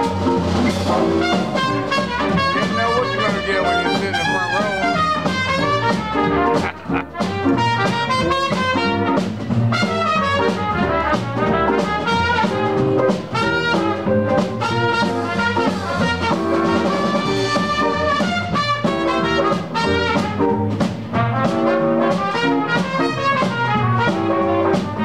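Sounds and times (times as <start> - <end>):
drum kit beat: 0.0 - 25.0
live band dance music: 0.0 - 25.0
saxophone melody: 0.0 - 25.0.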